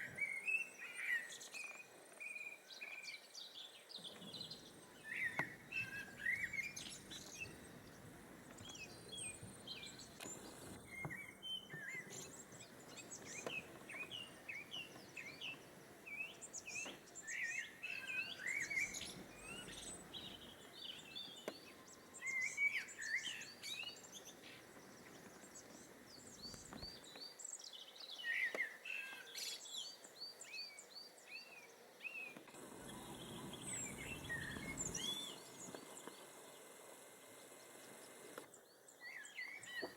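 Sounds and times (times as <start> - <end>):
blackbird singing: 0.0 - 36.3, 37.9 - 39.9.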